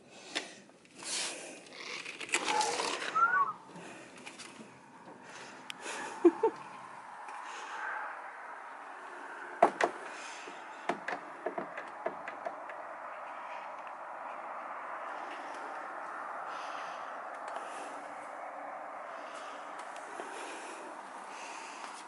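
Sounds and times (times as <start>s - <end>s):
steady outdoor hiss: 3.6s - 22.0s.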